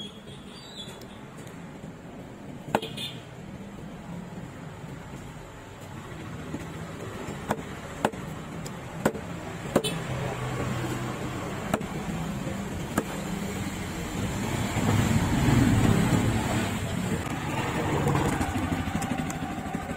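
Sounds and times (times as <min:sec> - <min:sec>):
road traffic drone: 0:00.0 - 0:19.9.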